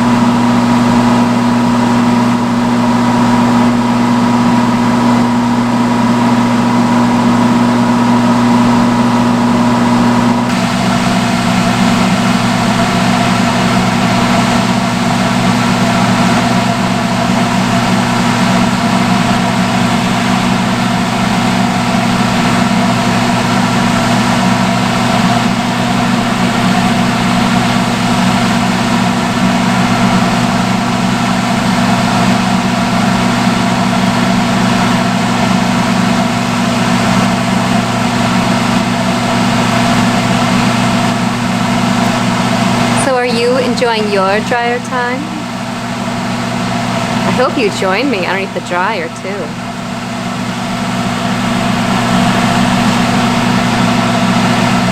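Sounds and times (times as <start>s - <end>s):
hood hair dryer running: 0.0s - 54.9s.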